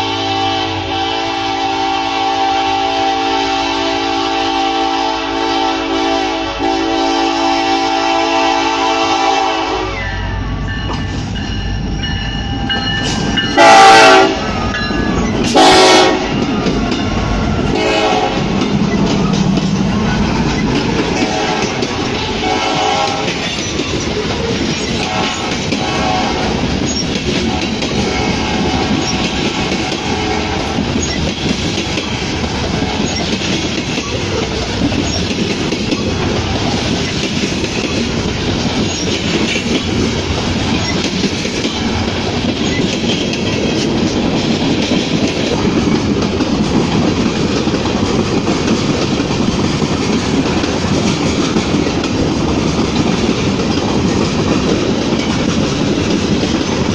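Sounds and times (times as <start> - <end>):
train wheels rumbling on rails: 0.0 - 56.9
clickety-clack over rail joints: 10.7 - 56.9.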